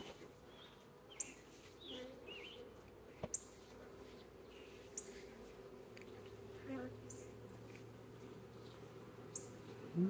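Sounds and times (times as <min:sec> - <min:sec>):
honeybees humming: 0:00.3 - 0:10.0.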